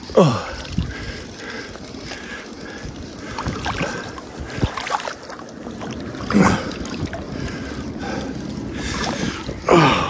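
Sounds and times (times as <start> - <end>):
river flowing: 0.0 - 10.0
wind on microphone: 0.4 - 10.0.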